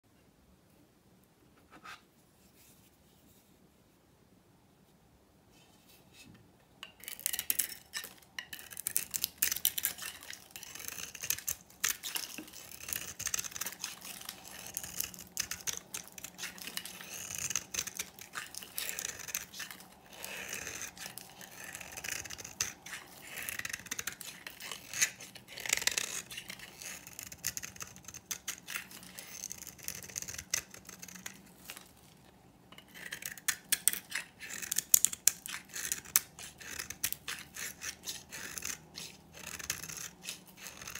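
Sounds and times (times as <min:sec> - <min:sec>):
knife carving hard soap: 0:06.8 - 0:32.1, 0:32.7 - 0:40.9.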